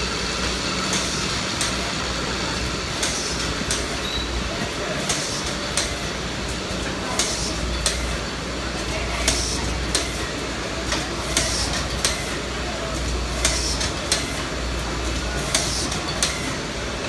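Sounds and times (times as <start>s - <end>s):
machine clatter and hum: 0.0s - 17.0s.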